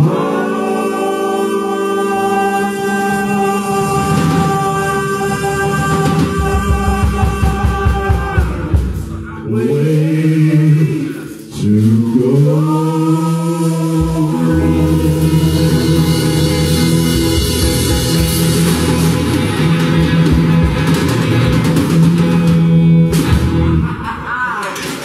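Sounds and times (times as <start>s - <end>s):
bass guitar: 0.0s - 10.9s, 11.5s - 24.1s
electric guitar chords: 0.0s - 12.0s, 13.6s - 24.3s
drum kit: 0.0s - 12.8s, 13.6s - 25.0s.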